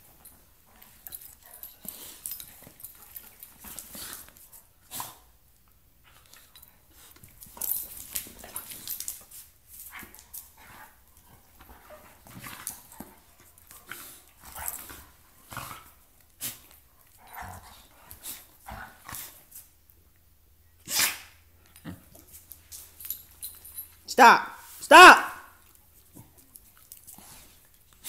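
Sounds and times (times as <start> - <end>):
dogs play-fighting: 0.0 - 24.0, 24.6 - 28.0.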